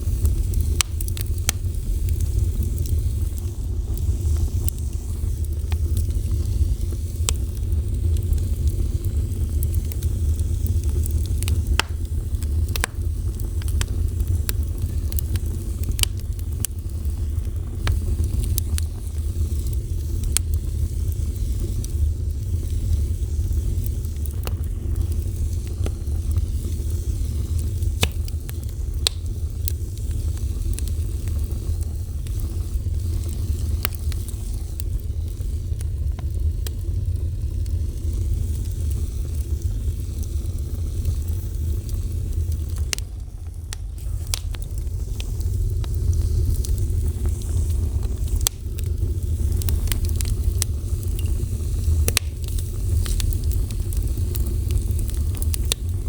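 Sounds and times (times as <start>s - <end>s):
fire crackles and pops: 0.0s - 56.0s
wood fire roaring: 0.0s - 56.0s.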